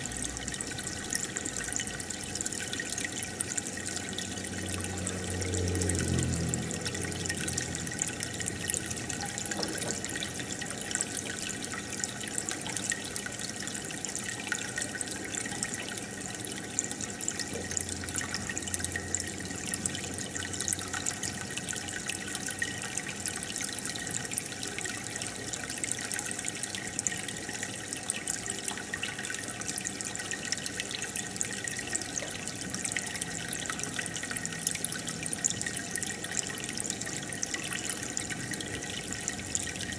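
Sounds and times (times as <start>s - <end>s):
deeper gurgle: 0.0s - 39.9s.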